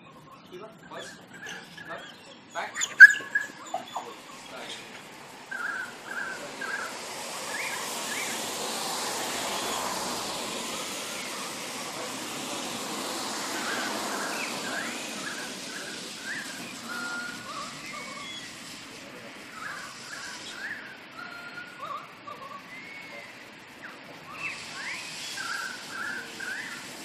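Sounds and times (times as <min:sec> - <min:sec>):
small birds chirping: 0:00.0 - 0:27.0
broad rushing noise: 0:00.9 - 0:27.0.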